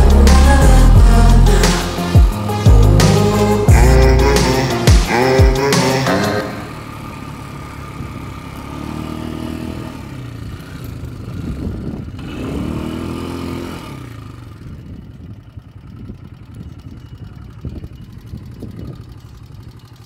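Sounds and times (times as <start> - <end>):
engine revving and idling: 0.0 - 20.0.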